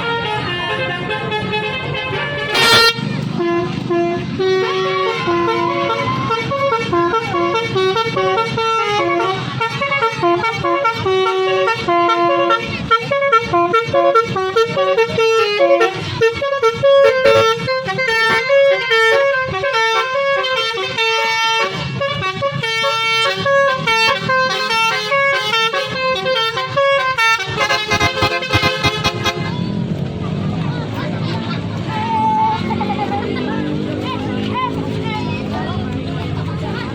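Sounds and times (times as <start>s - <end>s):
musical air horn tune: 0.0s - 29.6s.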